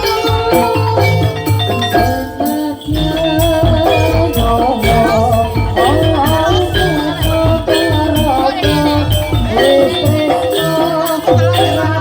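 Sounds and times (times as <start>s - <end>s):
drums and percussion: 0.0s - 12.0s
wavering melody: 0.0s - 12.0s.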